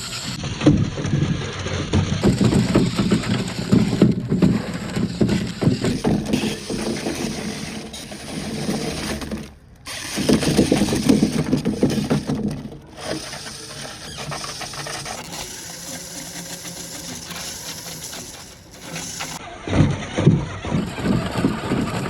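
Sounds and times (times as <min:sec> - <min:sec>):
small electric motor whirring: 0:00.0 - 0:00.4, 0:01.3 - 0:19.4.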